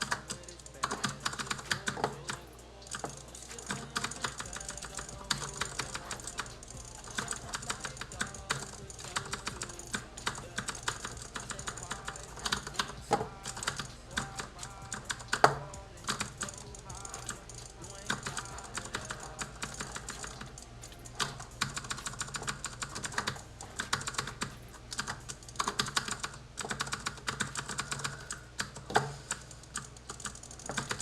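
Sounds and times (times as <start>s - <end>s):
mouse buttons clicking rapidly: 0.0s - 31.0s.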